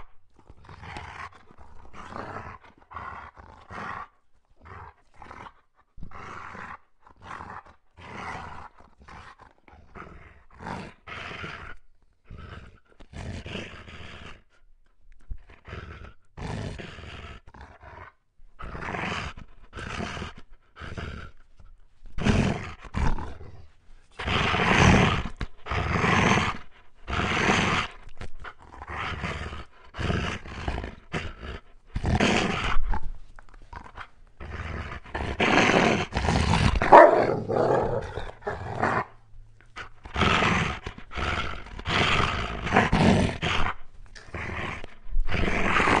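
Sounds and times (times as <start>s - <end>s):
wolf growling and snarling: 0.0s - 14.6s, 15.3s - 46.0s.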